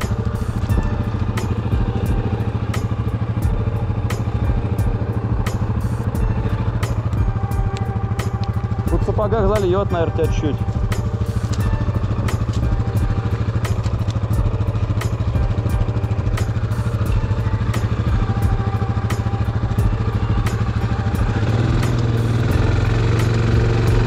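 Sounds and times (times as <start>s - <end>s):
atv engine idling: 0.0s - 24.0s
regular ticking: 0.0s - 24.0s.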